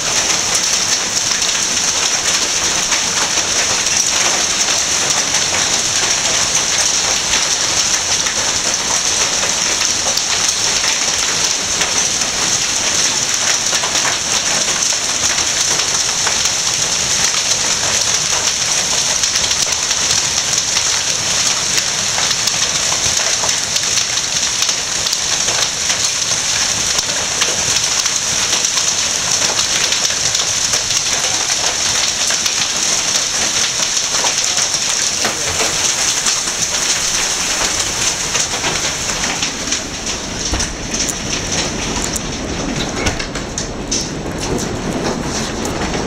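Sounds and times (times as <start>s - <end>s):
hail and heavy rain pelting: 0.0s - 46.0s.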